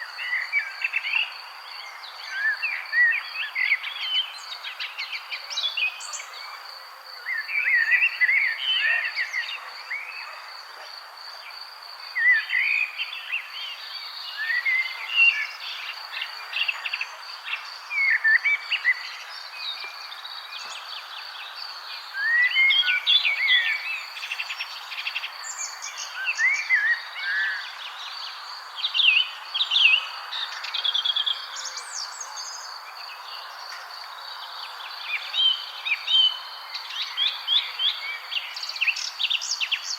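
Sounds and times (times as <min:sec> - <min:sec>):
background hiss: 0:00.0 - 0:39.9
songbirds chirping and warbling: 0:00.0 - 0:39.9.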